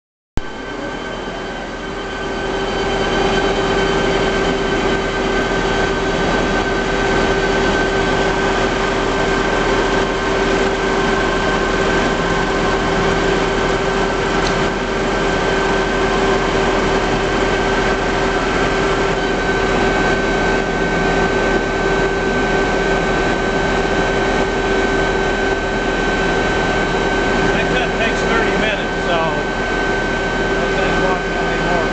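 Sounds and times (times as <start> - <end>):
lathe humming and whining: 0.4 - 31.9.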